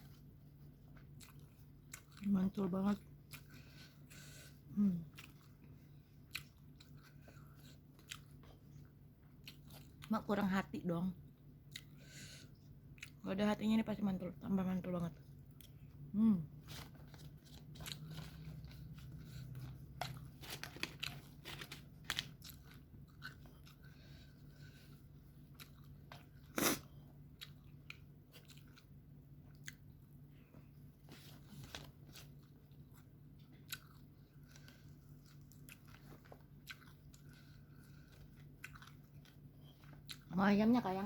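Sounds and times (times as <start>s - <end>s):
chewing and crunching food: 0.0s - 41.0s
steady low hum: 0.0s - 41.0s.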